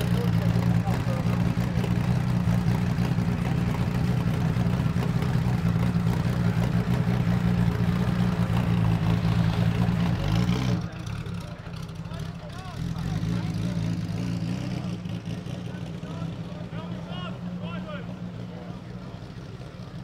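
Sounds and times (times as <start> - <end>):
racing engine idling: 0.0 - 20.0.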